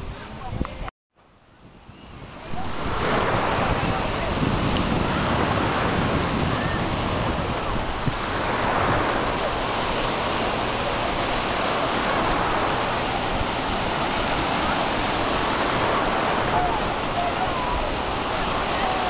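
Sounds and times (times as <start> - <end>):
sea surf breaking: 2.1 - 19.0.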